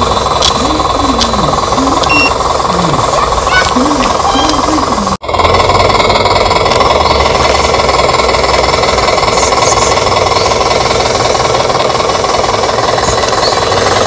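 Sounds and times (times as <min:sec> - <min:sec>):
toy truck mechanical clatter: 0:00.0 - 0:14.0.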